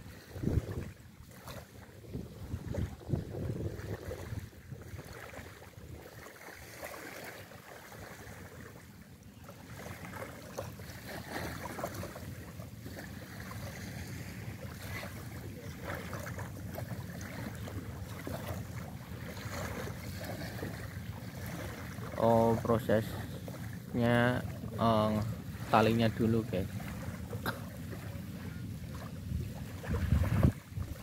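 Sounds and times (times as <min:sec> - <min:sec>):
boat engine humming: 0:00.0 - 0:31.0
water sloshing around hull: 0:00.0 - 0:31.0
wind: 0:00.0 - 0:31.0.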